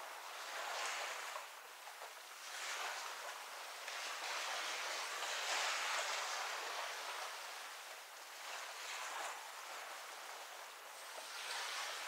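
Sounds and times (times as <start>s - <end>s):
small waves washing onto beach: 0.0s - 12.0s.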